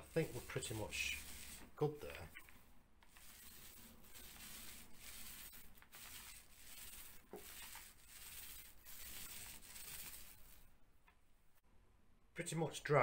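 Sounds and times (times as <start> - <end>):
paint roller swishing: 0.0 - 10.8.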